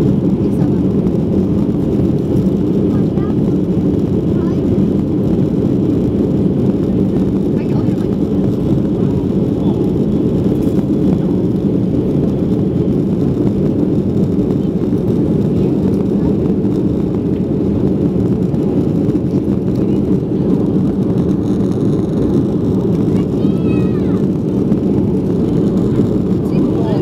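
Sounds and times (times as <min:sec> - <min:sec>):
jet engines droning: 0:00.0 - 0:27.0
rushing airflow: 0:00.0 - 0:27.0.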